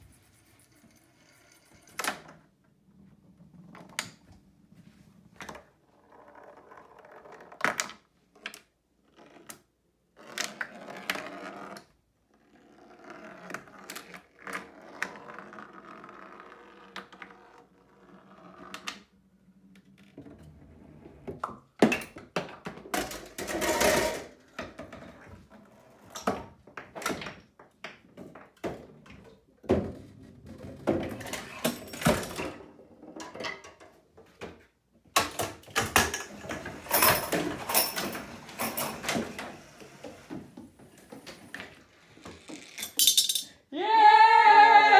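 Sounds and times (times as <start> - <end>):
balls rolling: 0.3 - 43.5.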